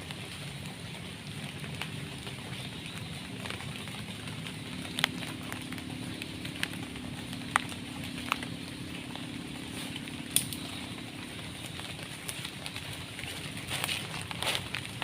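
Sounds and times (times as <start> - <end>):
heavy rain in forest: 0.0 - 15.0.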